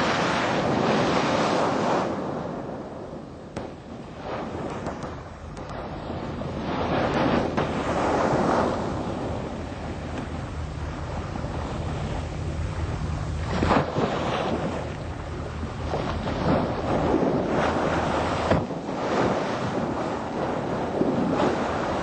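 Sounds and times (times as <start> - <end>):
water wash: 0.0 - 22.0
wind buffeting microphone: 0.0 - 22.0
low engine hum: 3.4 - 22.0.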